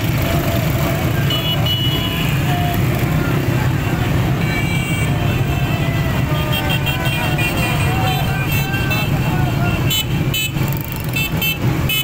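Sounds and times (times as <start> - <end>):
horns beeping: 0.0 - 12.0
motorcycle engines droning: 0.0 - 12.0.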